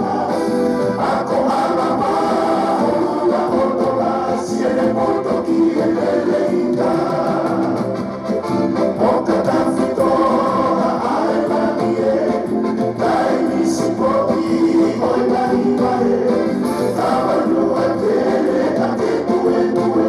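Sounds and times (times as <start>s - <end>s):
instrumental backing: 0.0s - 20.0s
voices singing in harmony: 0.0s - 20.0s.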